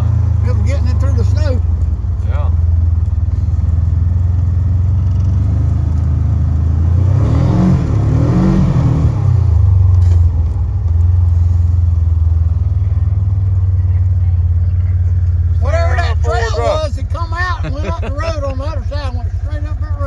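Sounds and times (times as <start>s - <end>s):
golf cart engine running: 0.0s - 7.0s, 9.3s - 20.0s.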